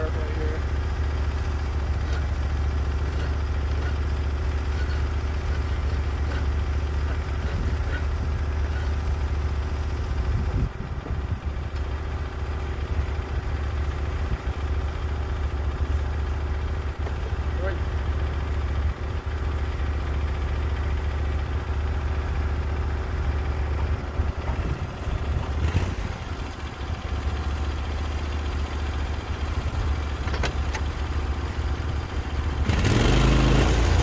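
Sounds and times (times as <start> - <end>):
sawmill engine humming: 0.0 - 34.0.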